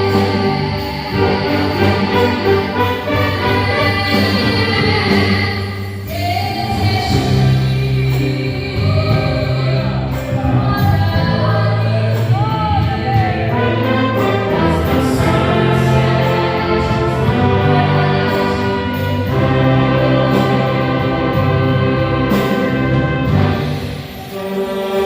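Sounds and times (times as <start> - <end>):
worship band playing: 0.0 - 25.0.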